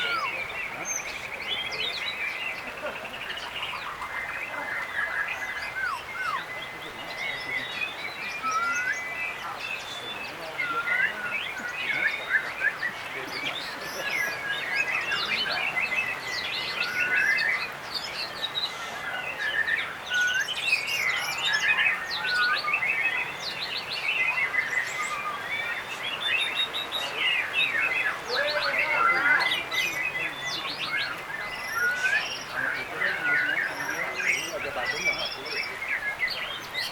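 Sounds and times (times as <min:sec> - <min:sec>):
birds singing whistles and trills: 0:00.0 - 0:36.9.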